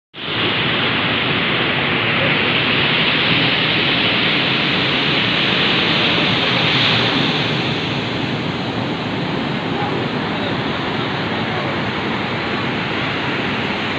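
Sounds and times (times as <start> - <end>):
sea surf rushing: 0.2 - 13.9.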